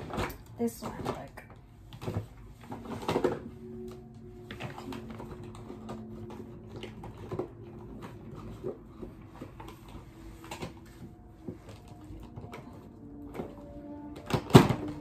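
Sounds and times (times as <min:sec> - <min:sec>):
small items clicking and rustling: 0:00.0 - 0:15.0.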